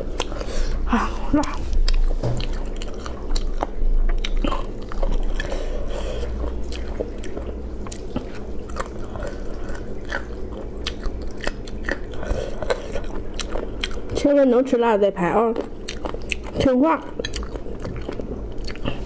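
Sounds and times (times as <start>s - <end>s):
chewing and biting chicken: 0.0s - 14.2s, 15.6s - 19.0s
low steady hum: 0.0s - 19.0s.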